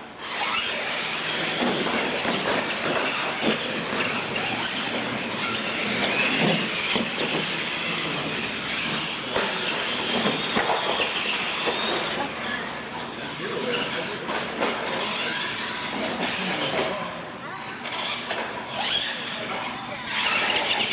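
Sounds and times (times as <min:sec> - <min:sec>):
toy truck motors whining: 0:00.0 - 0:20.9
tyres on concrete: 0:00.2 - 0:20.9.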